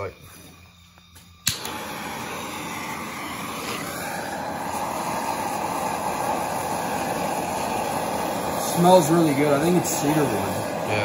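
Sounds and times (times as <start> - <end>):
torch flame hissing: 0.0 - 11.0.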